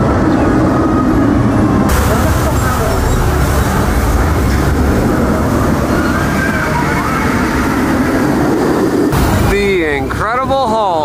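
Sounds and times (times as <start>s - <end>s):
roller coaster train rumbling on track: 0.0s - 11.0s.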